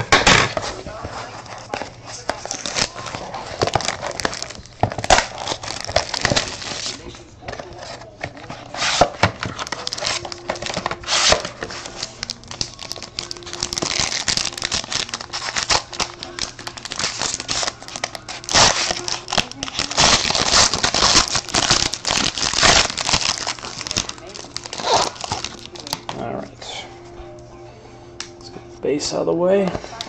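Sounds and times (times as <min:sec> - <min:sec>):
plastic wrap crinkling and tearing: 0:00.0 - 0:26.3.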